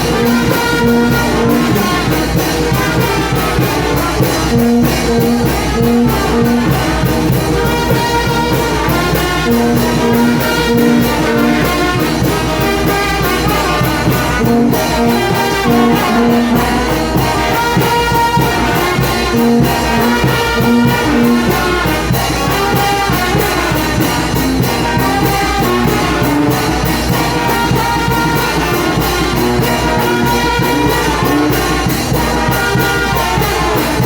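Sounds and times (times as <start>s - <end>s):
brass band playing: 0.0s - 34.0s
drum beat: 0.0s - 34.0s.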